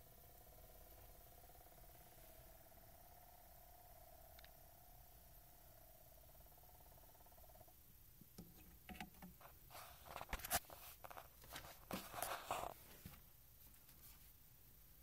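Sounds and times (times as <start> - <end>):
record player whine: 0.0 - 15.0.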